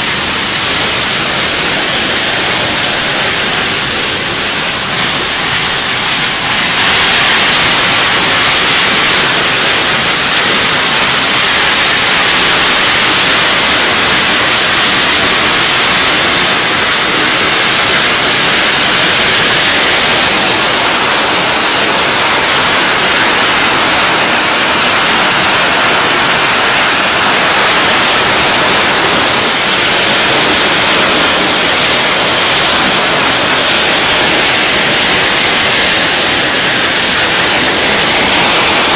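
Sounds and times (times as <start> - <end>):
hail and heavy rain pelting: 0.0 - 38.9.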